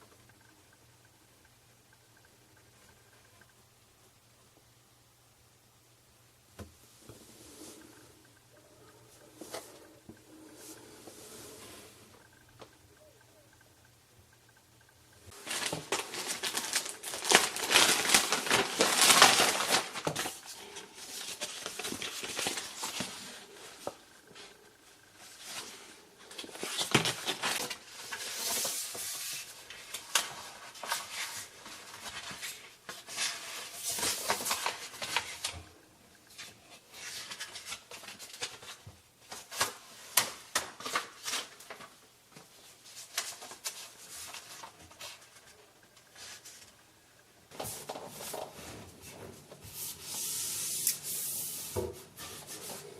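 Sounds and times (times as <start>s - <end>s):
rustling and crinkling: 7.0s - 12.8s, 15.3s - 52.9s.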